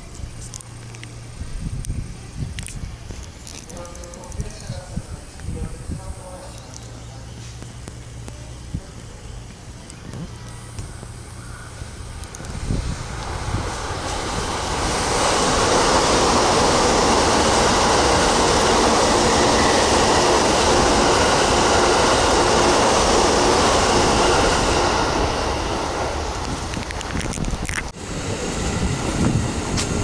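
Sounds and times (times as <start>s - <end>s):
electric train passing at speed: 0.0s - 30.0s.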